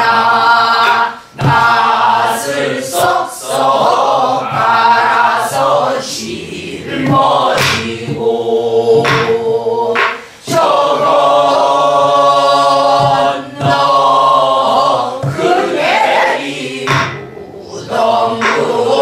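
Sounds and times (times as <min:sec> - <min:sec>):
barrel drum strokes: 0:00.0 - 0:19.0
group singing folk song: 0:00.0 - 0:19.0.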